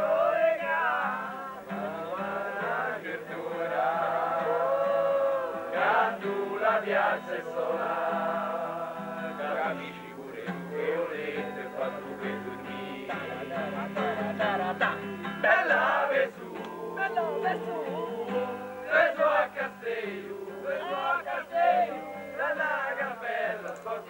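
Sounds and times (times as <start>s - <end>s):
music with male singing: 0.0s - 24.0s.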